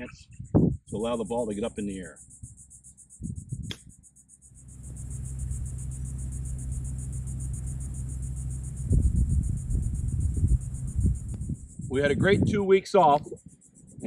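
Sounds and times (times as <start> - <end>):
crickets trilling: 0.0 - 14.0
steady low rumble: 0.0 - 14.0.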